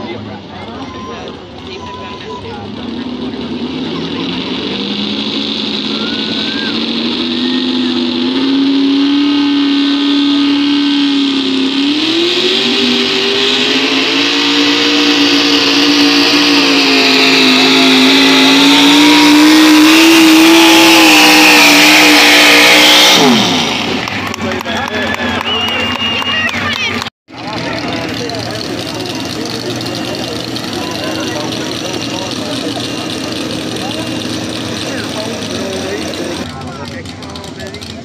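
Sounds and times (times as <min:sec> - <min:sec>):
tractor engine at full throttle: 0:00.0 - 0:38.0.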